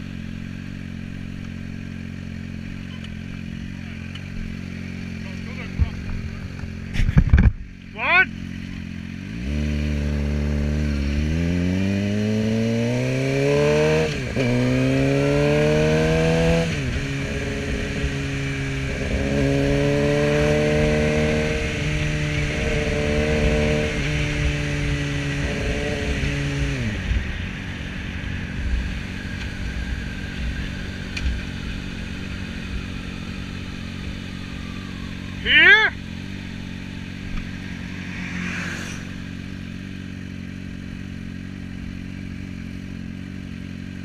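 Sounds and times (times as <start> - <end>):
motorcycle engine accelerating: 0.0 - 44.0
wind and road noise: 0.0 - 44.0.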